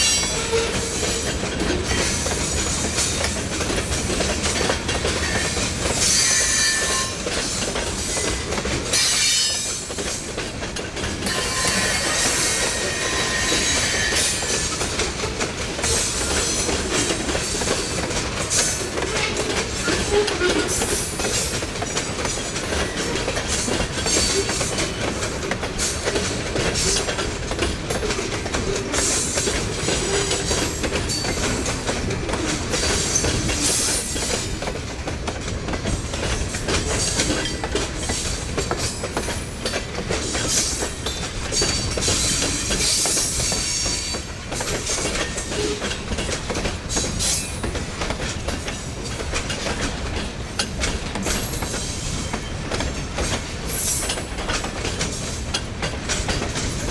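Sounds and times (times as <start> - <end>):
train wheels rumbling: 0.0 - 56.9.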